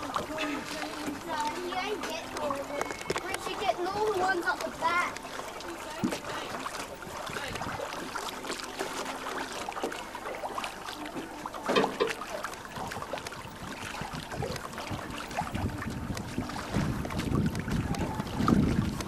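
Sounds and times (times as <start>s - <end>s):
water lapping against hull: 0.0s - 19.0s.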